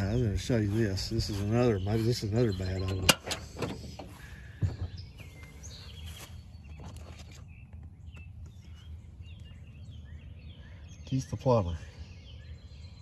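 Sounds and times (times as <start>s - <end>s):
low outdoor rumble: 0.0s - 11.0s
birds chirping faintly: 0.0s - 13.0s.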